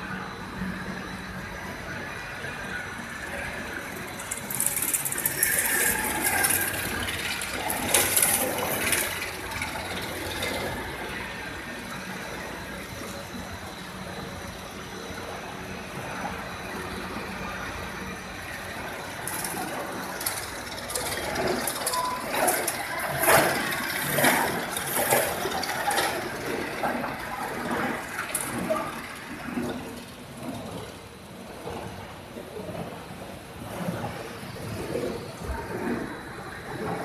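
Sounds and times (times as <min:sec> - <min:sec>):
machinery humming: 0:00.0 - 0:37.0
machinery rattling and clattering: 0:00.2 - 0:37.0.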